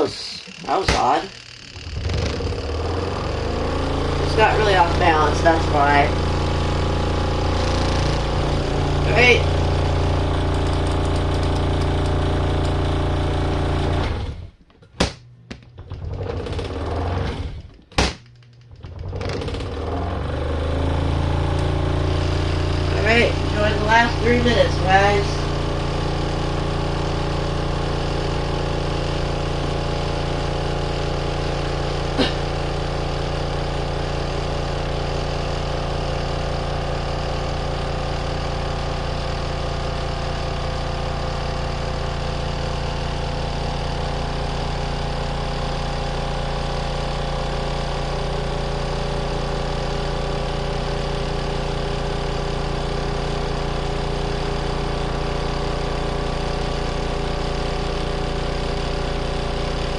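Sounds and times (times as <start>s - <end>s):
washing machine motor humming: 0.0s - 59.9s.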